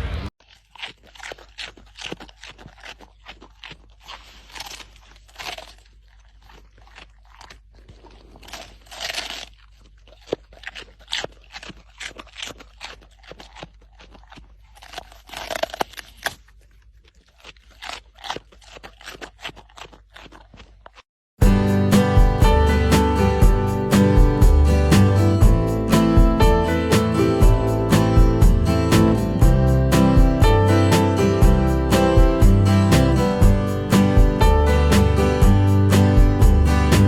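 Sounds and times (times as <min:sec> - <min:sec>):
crunching and chewing: 0:00.4 - 0:37.0.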